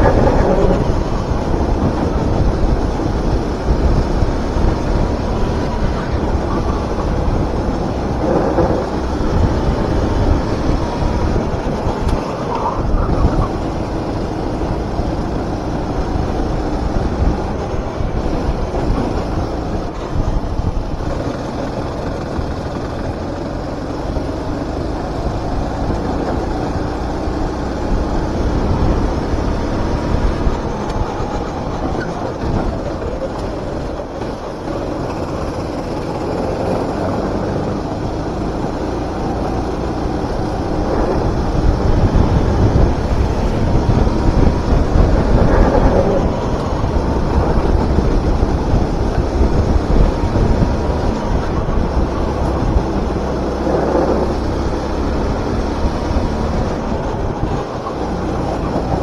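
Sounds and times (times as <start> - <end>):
go-kart engine: 0.0 - 59.0
heavy rumble: 0.0 - 59.0.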